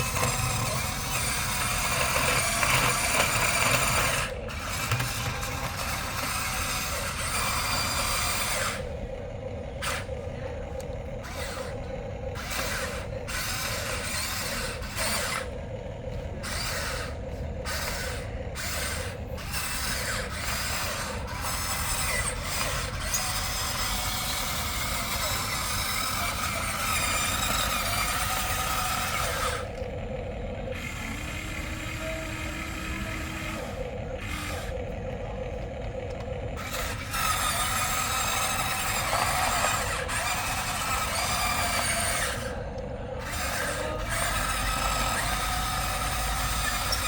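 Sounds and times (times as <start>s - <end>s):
toy excavator motors whirring: 0.0s - 47.0s.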